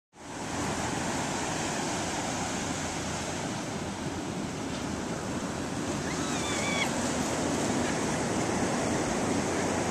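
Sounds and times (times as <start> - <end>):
ocean surf breaking: 0.2 - 9.9.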